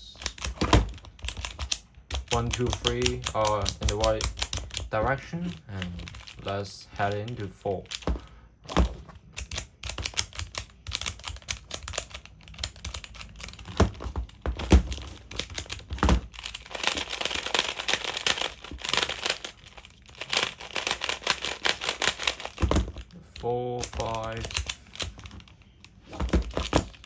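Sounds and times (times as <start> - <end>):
plastic tiles clicking and scraping: 0.2 - 8.2, 8.9 - 27.0.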